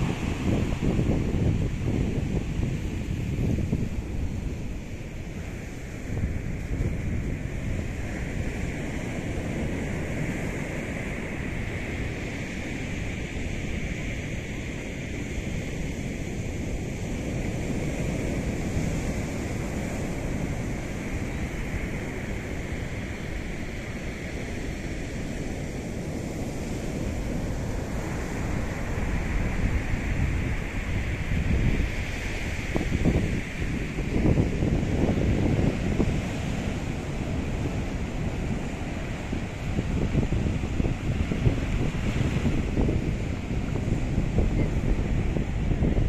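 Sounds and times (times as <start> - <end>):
surf breaking on beach: 0.0 - 46.0
wind buffeting microphone: 0.0 - 46.0.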